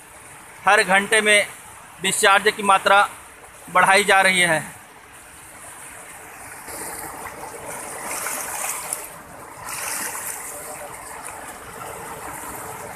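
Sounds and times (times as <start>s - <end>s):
floodwater rushing and churning: 0.0s - 12.9s.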